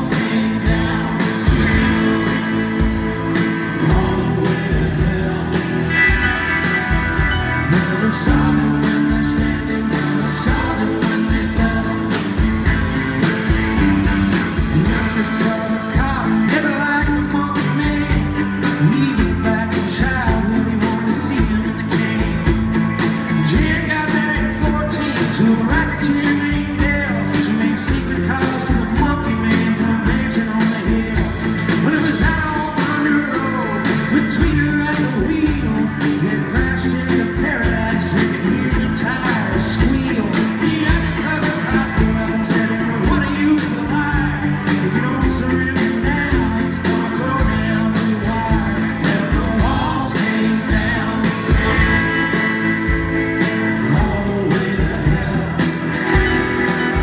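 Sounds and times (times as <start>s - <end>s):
lead singer singing: 0.0s - 57.0s
live rock band playing: 0.0s - 57.0s
steady drum beat: 0.0s - 57.0s.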